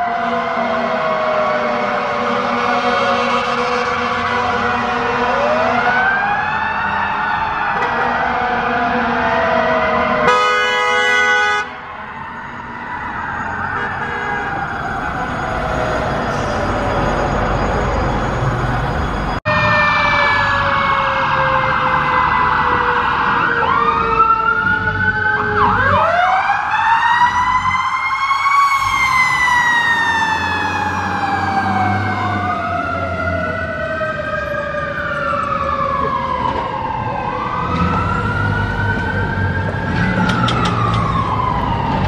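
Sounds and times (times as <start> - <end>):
fire truck sirens wailing: 0.0 - 42.0.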